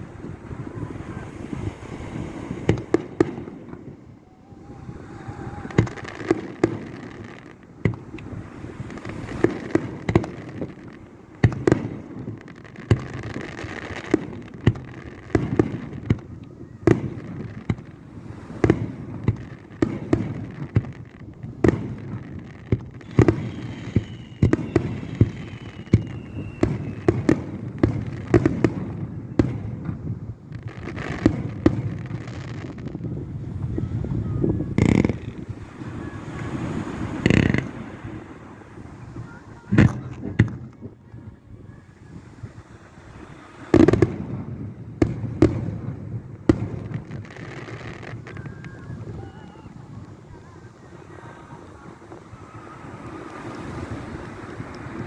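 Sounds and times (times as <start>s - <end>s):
background noise: 0.0s - 55.0s
fireworks bursting: 0.0s - 55.0s.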